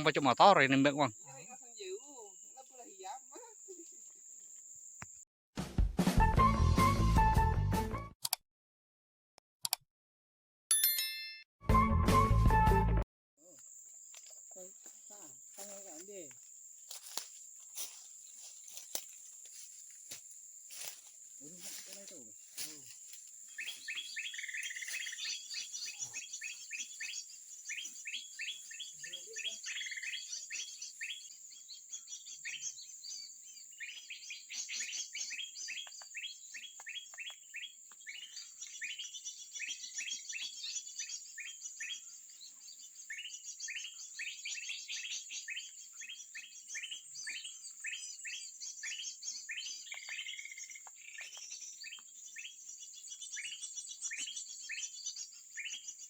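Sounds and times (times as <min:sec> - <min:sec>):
small songbirds chirping: 0:00.0 - 0:05.2, 0:13.4 - 0:56.0.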